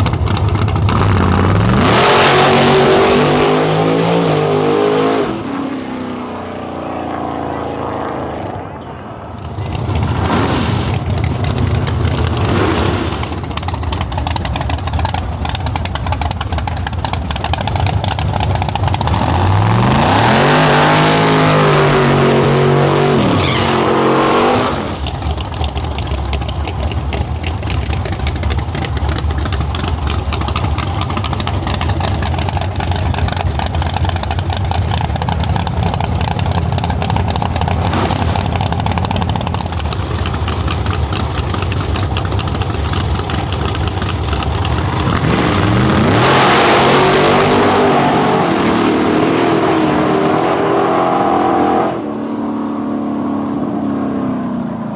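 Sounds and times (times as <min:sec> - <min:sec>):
pickup engine revving and idling: 0:00.0 - 0:54.9.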